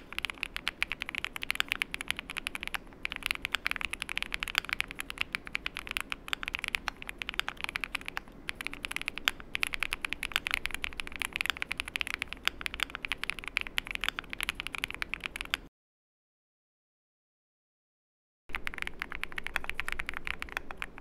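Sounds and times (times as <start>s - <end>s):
mechanical keyboard typing: 0.0s - 15.7s, 18.5s - 21.0s.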